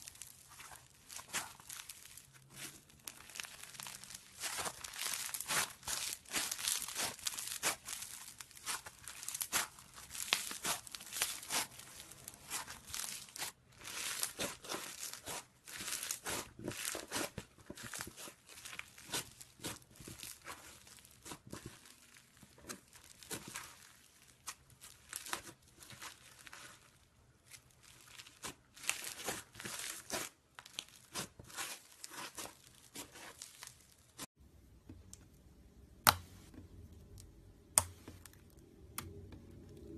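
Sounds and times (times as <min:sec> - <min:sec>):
slime crackling and popping: 0:00.0 - 0:34.3.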